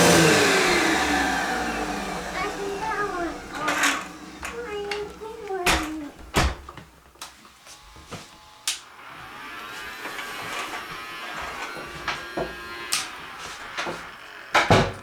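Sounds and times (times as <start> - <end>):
vacuum motor buzzing whine: 0.0 - 15.0.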